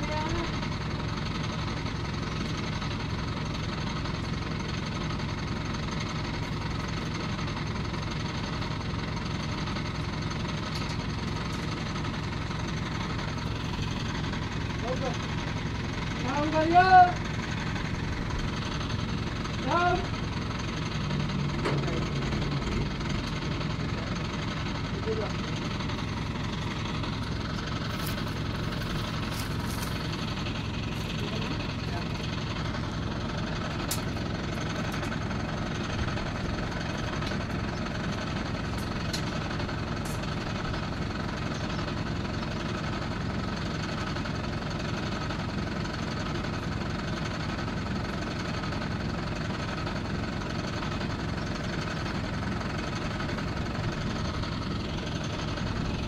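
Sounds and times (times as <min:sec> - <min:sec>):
crane engine running: 0:00.0 - 0:56.0.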